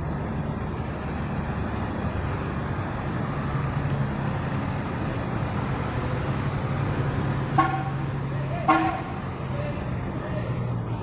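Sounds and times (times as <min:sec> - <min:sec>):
diesel bus engine droning: 0:00.0 - 0:11.0
traffic rumble: 0:00.0 - 0:11.0.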